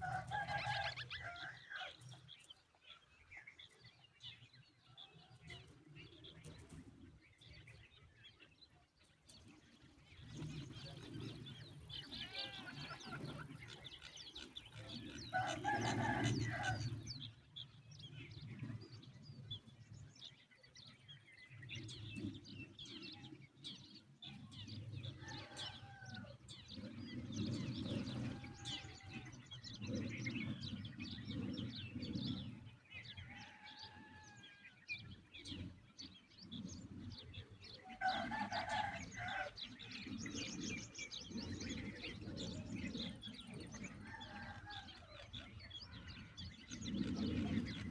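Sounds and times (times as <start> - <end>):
birds chirping and calling: 0.0 - 47.9.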